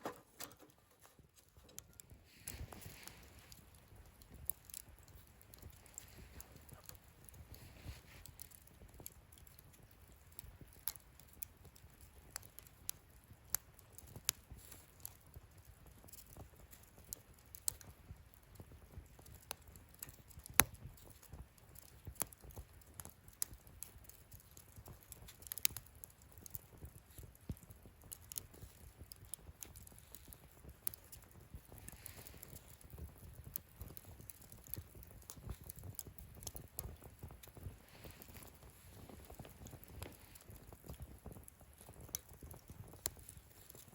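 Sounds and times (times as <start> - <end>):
low rumble of fire: 0.0 - 43.9
wood fire crackling: 0.0 - 43.9.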